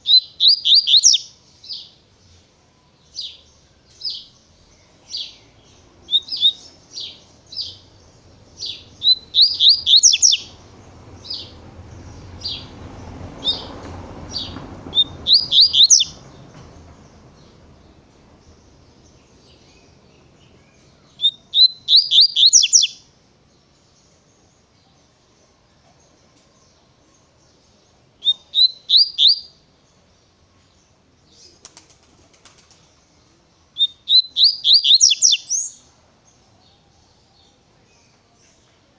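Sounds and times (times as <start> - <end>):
bird singing: 0.0 - 31.7, 32.6 - 38.9.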